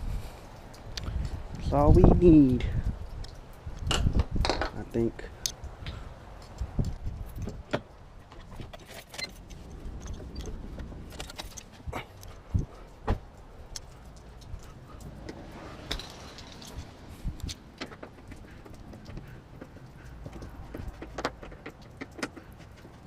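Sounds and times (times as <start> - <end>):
light metallic clinks and knocks: 0.4 - 23.0.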